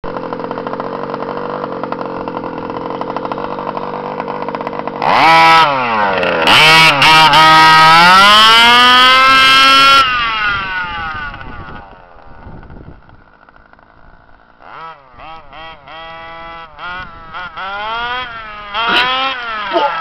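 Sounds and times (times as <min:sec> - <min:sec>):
rc buggy engine revving: 0:00.0 - 0:20.0.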